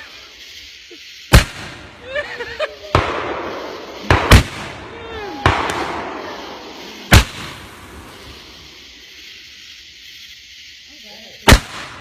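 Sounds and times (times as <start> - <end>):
fireworks bangs with trailing hiss: 0.0 - 12.0.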